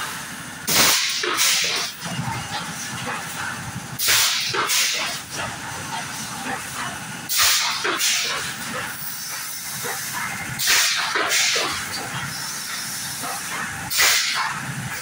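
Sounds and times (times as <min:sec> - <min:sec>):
machine running noise: 0:00.0 - 0:15.0
compressed air hissing: 0:00.7 - 0:01.9, 0:02.8 - 0:15.0.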